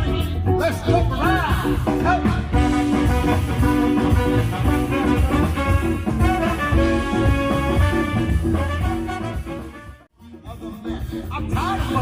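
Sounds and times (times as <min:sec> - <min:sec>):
swing band playing: 0:00.0 - 0:12.0.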